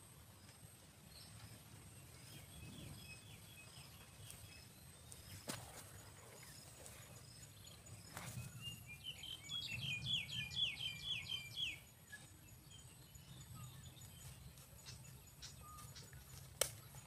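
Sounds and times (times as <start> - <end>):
bird chirping: 1.1 - 17.0.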